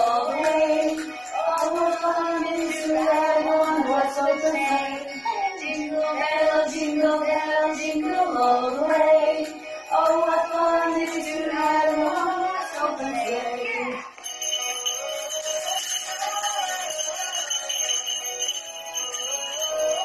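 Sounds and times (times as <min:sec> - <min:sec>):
two women singing: 0:00.0 - 0:14.2, 0:15.7 - 0:18.2.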